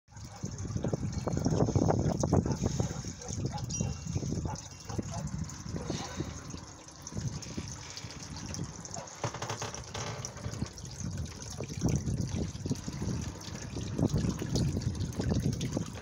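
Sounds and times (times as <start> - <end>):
fountain water splashing into basin: 0.1 - 16.0.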